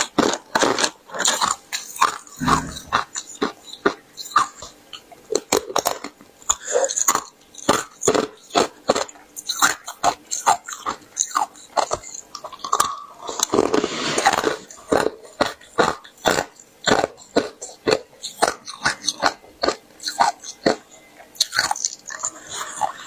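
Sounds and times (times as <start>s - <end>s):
ice being chewed: 0.0s - 4.6s, 5.3s - 23.0s.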